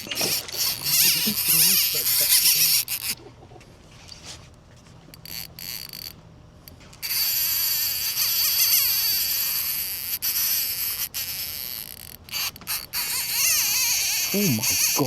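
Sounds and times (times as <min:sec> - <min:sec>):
fishing reel drag screaming: 0:00.0 - 0:03.2, 0:05.2 - 0:06.1, 0:07.0 - 0:15.0.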